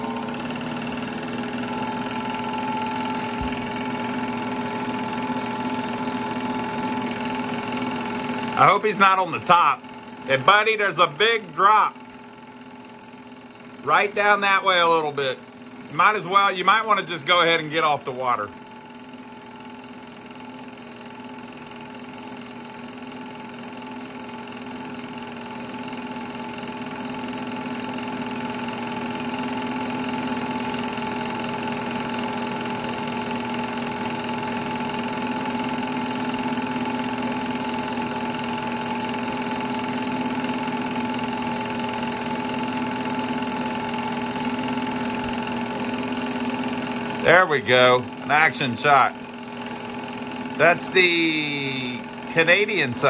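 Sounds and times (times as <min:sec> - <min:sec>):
film projector running: 0:00.0 - 0:53.0.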